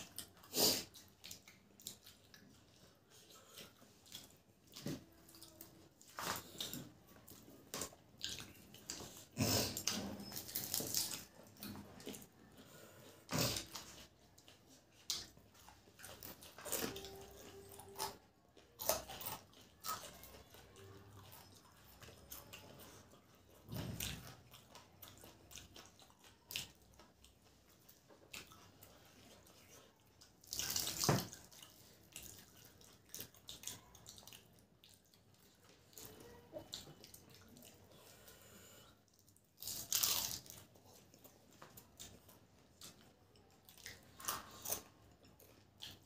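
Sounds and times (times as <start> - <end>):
wet chewing and lip-smacking: 0.0 - 46.0.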